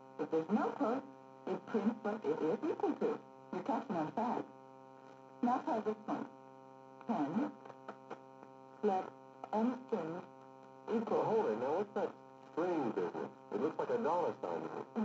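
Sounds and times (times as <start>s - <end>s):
buzzing electrical hum: 0.0s - 15.0s.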